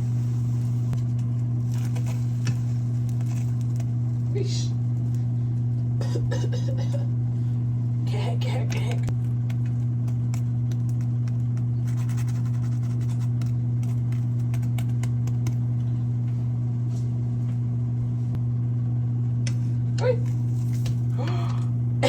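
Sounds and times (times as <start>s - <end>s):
low motor-like hum: 0.0s - 22.0s.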